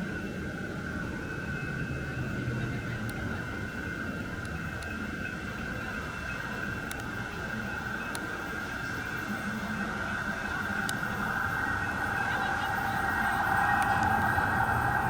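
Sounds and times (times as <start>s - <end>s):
light rail train approaching: 0.0s - 15.0s.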